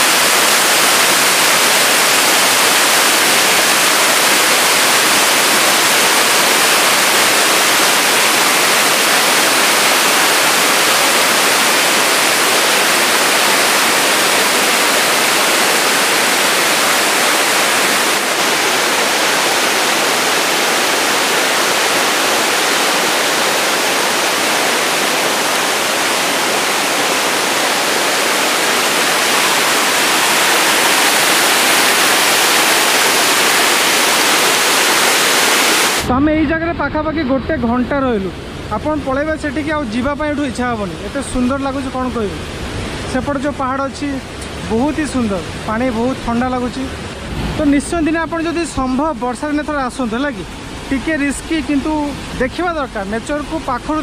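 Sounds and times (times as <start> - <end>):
river water rushing over rocks: 0.0 - 36.2, 38.2 - 54.0.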